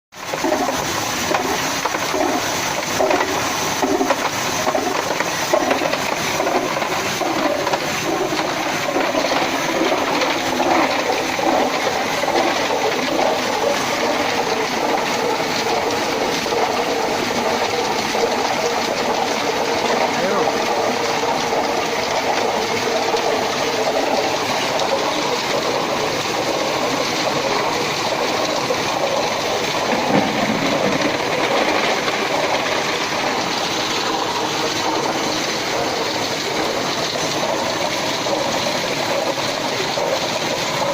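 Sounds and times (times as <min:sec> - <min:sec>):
ice machine running: 0:00.2 - 0:40.9
water rushing: 0:00.2 - 0:40.9.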